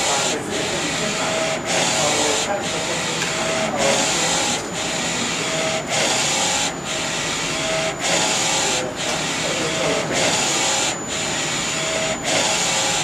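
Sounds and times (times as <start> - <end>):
printer carriage whirring: 0.0 - 13.0.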